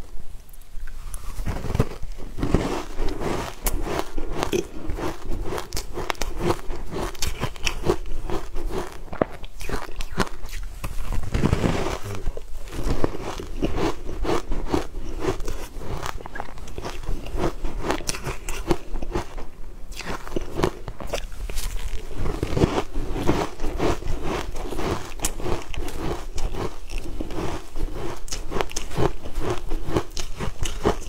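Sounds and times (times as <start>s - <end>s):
biting and chewing cake: 1.4s - 31.0s.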